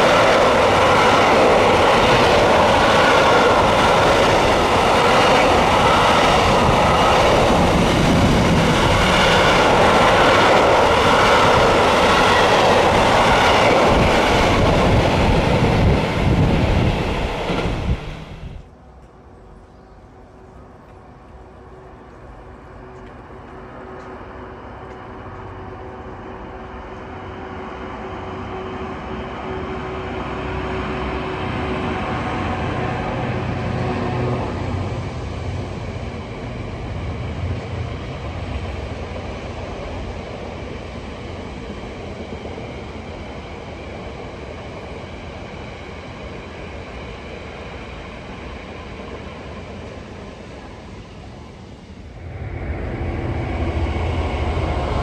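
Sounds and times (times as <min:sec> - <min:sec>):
loud train running: 0:00.0 - 0:18.7, 0:19.3 - 0:55.0
diesel locomotive passing: 0:00.0 - 0:55.0.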